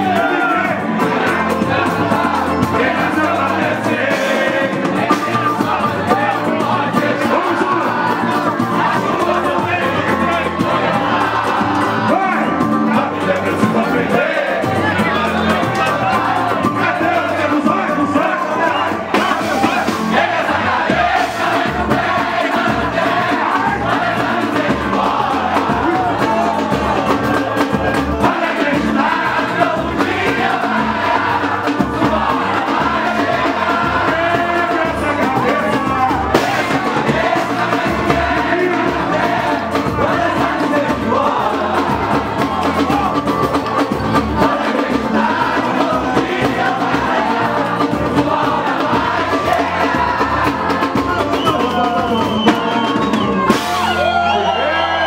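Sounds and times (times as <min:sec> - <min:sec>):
group of voices singing: 0:00.0 - 0:55.0.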